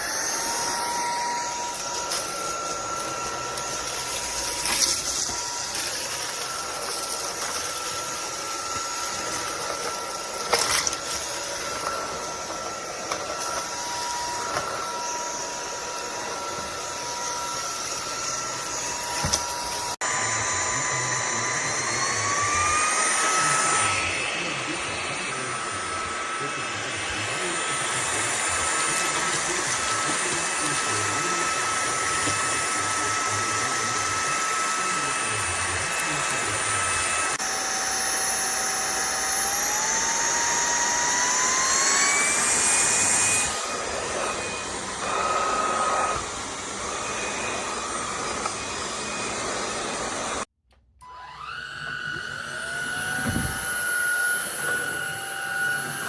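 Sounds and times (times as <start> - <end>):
vacuum motor whine: 0.0 - 56.0.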